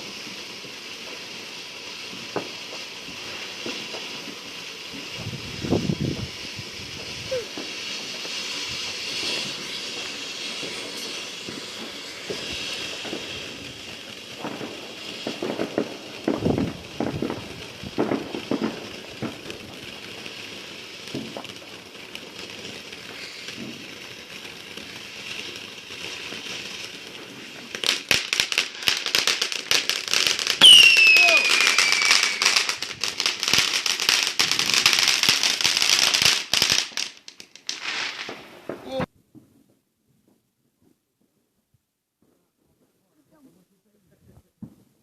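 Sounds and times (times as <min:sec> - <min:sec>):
fireworks hissing: 0:00.0 - 0:39.1
fireworks crackling: 0:00.0 - 0:41.5, 0:42.2 - 0:45.0.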